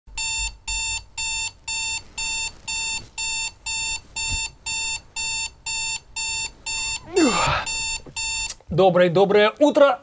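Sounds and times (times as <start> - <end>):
alarm beeping: 0.2 - 8.6.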